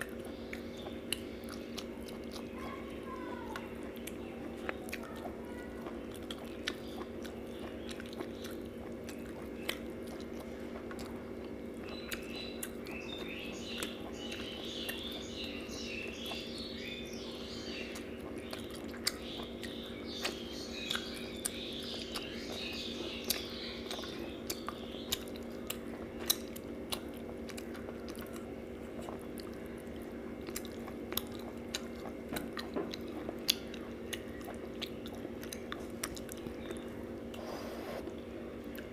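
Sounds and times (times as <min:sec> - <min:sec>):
person chewing: 0:00.0 - 0:15.5, 0:17.8 - 0:38.9
steady low hum: 0:00.0 - 0:38.9.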